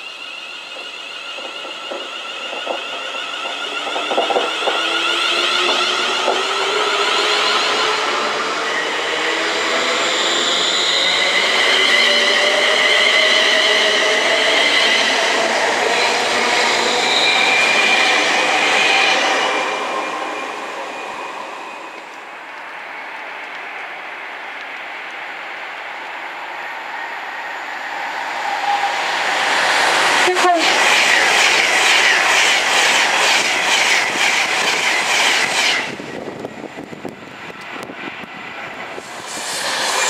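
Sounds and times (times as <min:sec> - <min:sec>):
rail noise: 0:00.0 - 0:40.0.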